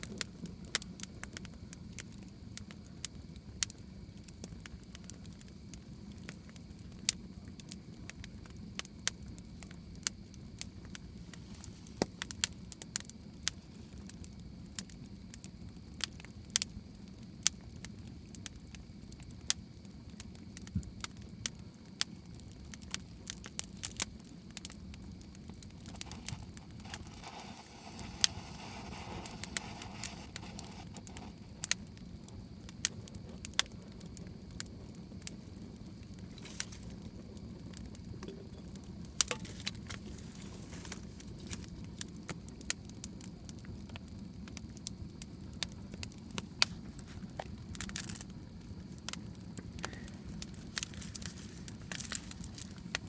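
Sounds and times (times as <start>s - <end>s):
campfire wood crackling: 0.0s - 53.0s.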